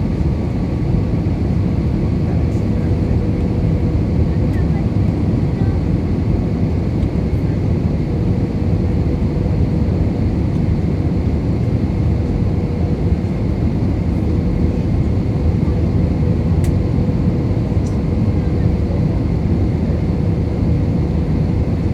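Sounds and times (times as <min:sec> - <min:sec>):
aircraft cabin rumble: 0:00.0 - 0:21.9.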